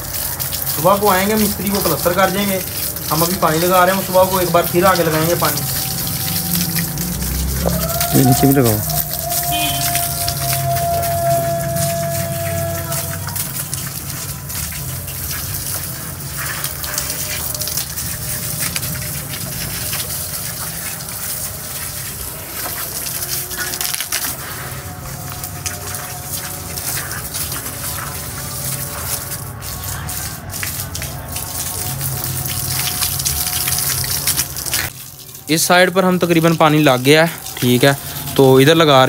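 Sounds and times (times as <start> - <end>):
hose spraying water on brick: 0.0 - 39.0.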